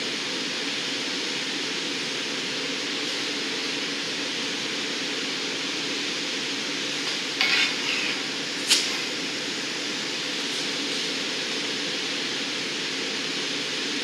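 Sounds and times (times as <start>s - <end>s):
furnace roaring: 0.0s - 14.0s.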